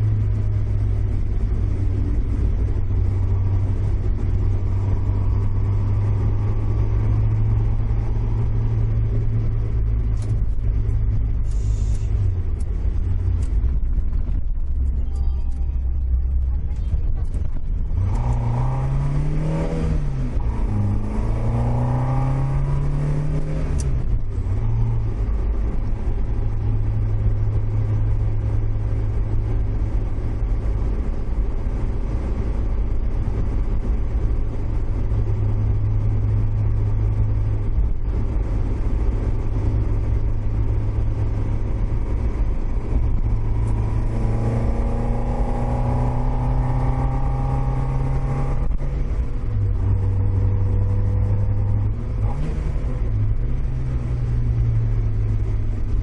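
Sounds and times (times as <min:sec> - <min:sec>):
car engine revving: 0:00.0 - 0:56.0
road and wind rumble: 0:00.0 - 0:56.0.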